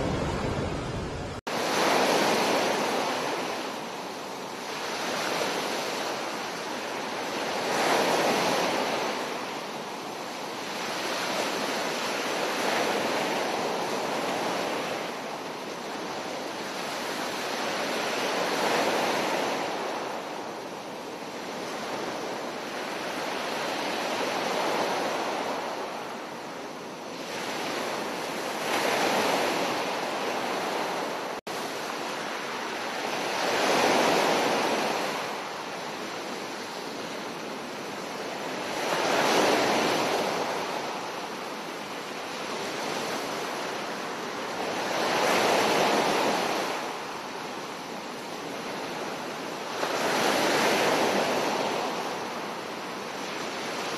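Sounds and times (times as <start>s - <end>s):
waves breaking on beach: 0.0s - 53.9s.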